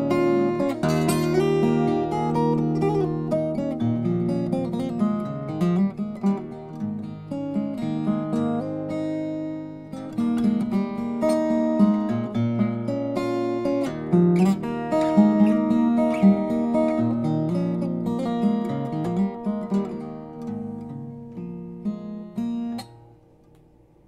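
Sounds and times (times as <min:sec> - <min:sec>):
fingerstyle acoustic guitar: 0:00.0 - 0:24.0.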